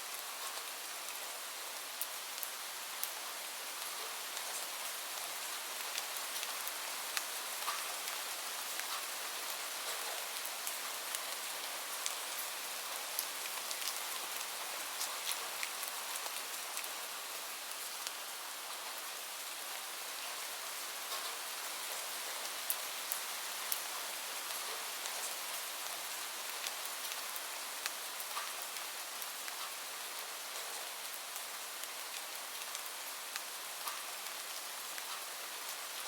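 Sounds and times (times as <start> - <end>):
gentle rain: 0.0 - 36.0.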